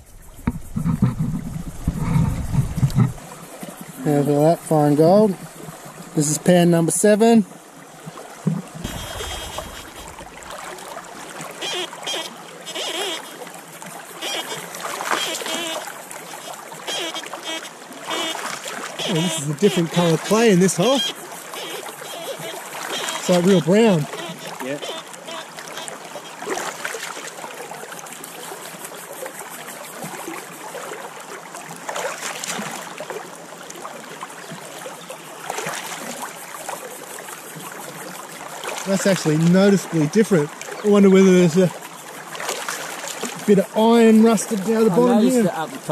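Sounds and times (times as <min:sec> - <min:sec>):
creek flowing: 0:00.0 - 0:45.9
water splashing around a pan: 0:08.1 - 0:44.9.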